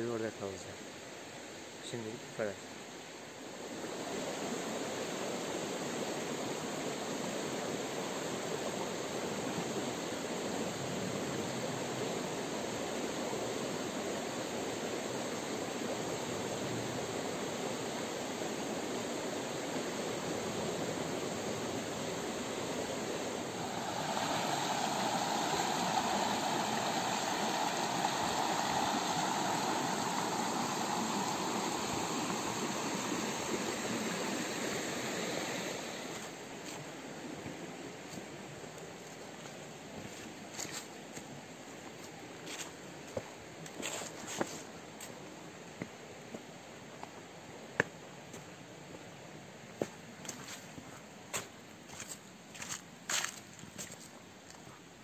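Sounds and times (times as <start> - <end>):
creek water running over rocks: 0.5 - 55.0.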